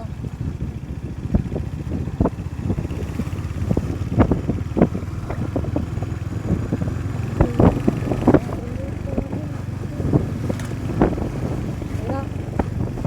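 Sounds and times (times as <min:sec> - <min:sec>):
motorcycle engine rumble: 0:00.0 - 0:13.0
wind rushing over microphone: 0:00.0 - 0:13.0.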